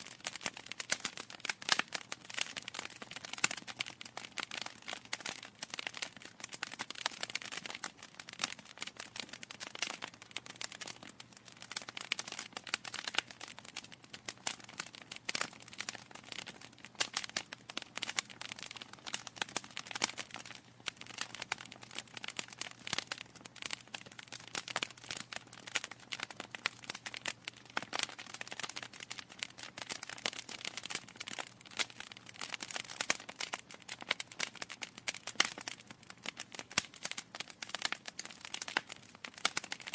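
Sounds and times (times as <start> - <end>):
burning logs popping: 0.0 - 39.9
wood fire crackling: 0.0 - 39.9.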